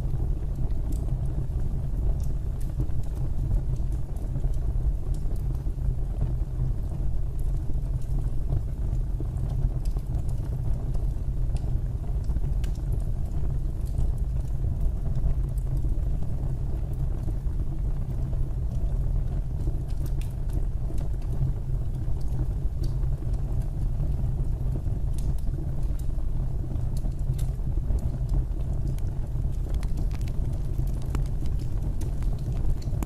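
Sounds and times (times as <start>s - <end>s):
fire burning with low rumble: 0.0s - 33.0s
fire crackles and pops: 0.0s - 33.0s.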